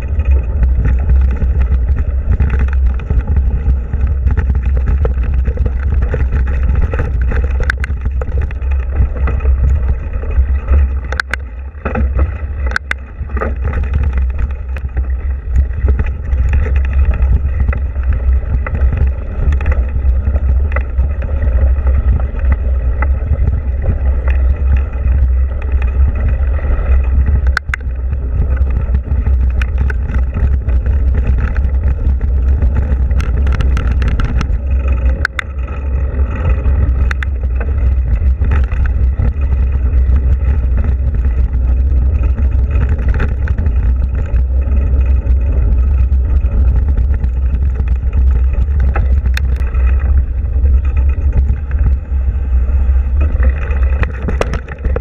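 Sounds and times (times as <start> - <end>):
bike clicks and knocks over stones: 0.0 - 55.0
wind and vibration rumble: 0.0 - 55.0.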